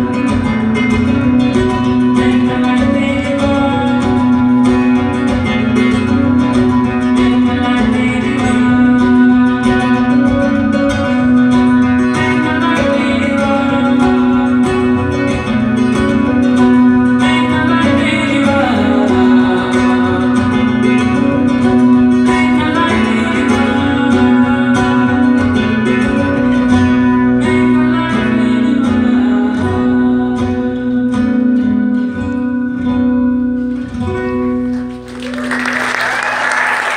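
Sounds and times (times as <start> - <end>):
fingerpicked acoustic guitar: 0.0 - 35.4.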